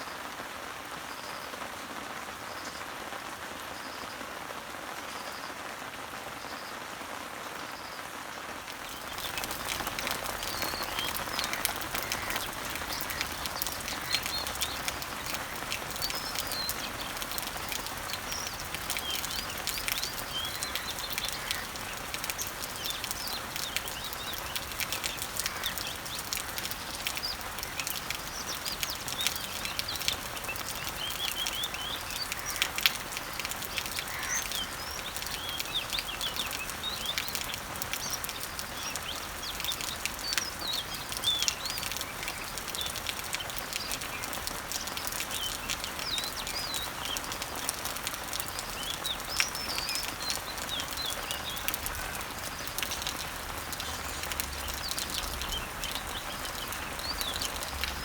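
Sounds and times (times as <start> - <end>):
rain falling on leaves: 0.0 - 58.0
birds chirping: 8.7 - 58.0.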